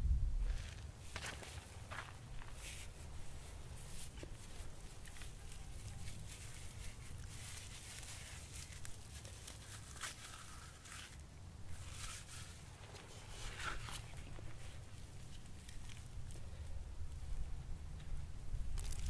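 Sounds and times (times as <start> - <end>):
low steady rumble: 0.0 - 19.0
dry plant fibres rustling and snapping: 0.5 - 17.2, 18.0 - 19.0.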